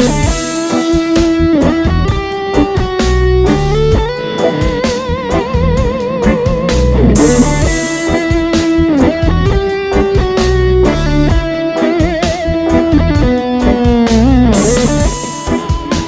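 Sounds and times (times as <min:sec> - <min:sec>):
distorted electric guitar lead: 0:00.0 - 0:16.0.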